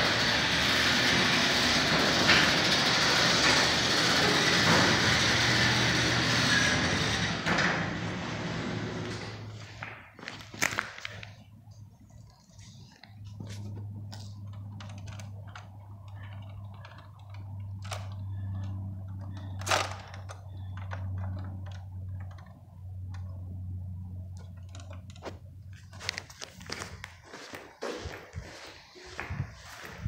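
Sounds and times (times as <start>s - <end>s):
garage door opener motor humming: 0.0s - 9.9s, 12.8s - 27.5s.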